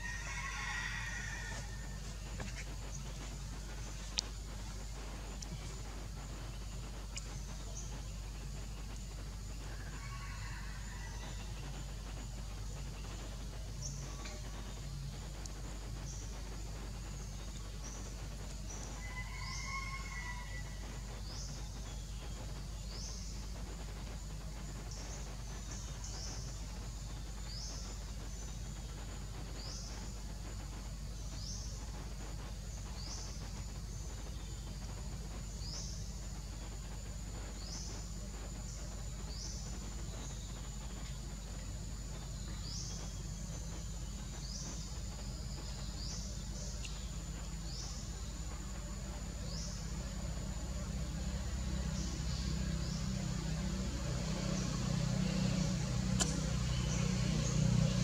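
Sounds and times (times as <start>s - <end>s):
low rumble: 0.0s - 10.0s, 10.6s - 58.0s
high insect drone: 0.0s - 58.0s.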